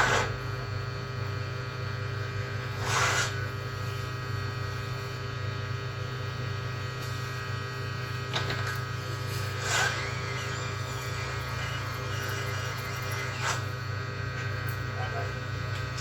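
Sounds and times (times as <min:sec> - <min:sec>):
electrical hum with tones: 0:00.0 - 0:16.0.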